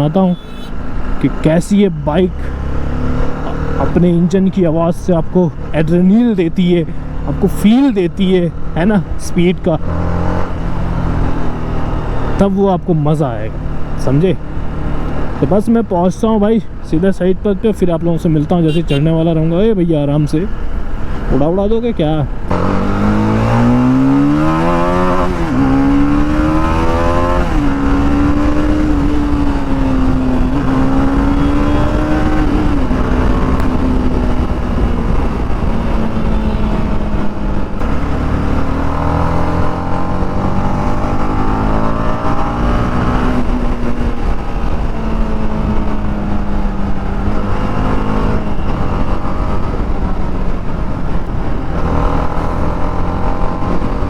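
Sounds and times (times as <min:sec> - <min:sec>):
motorcycle engine revving: 0:00.0 - 0:04.3, 0:06.9 - 0:15.5, 0:22.3 - 0:54.0.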